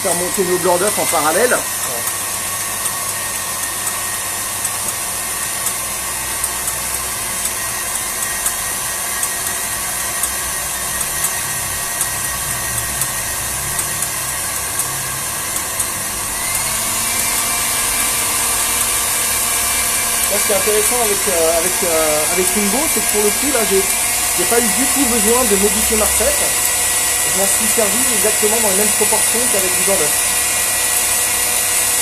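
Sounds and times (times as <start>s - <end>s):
stand mixer whisking: 0.0s - 32.0s.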